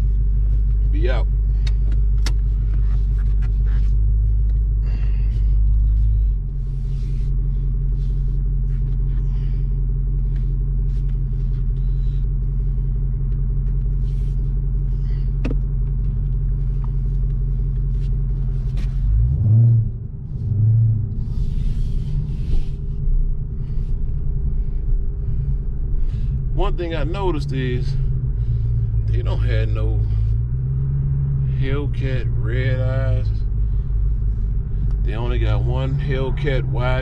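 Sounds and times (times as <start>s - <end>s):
car engine deep rumble: 0.0s - 37.0s.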